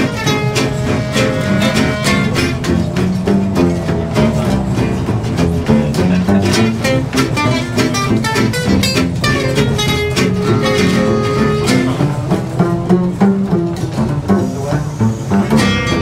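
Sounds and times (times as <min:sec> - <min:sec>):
clarinet: 0:00.0 - 0:03.9, 0:06.2 - 0:16.0
acoustic guitars strumming: 0:00.0 - 0:16.0
upright double bass: 0:00.0 - 0:16.0.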